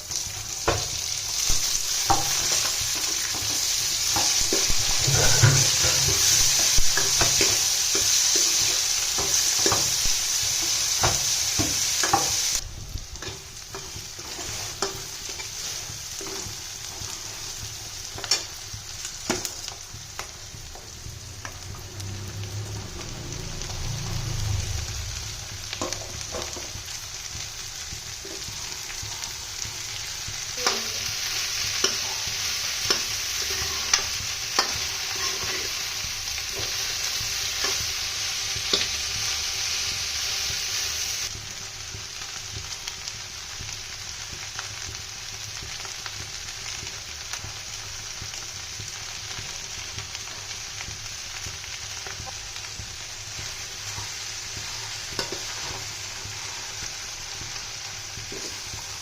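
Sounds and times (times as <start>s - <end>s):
vegetables sizzling in a pan: 0.0s - 59.0s.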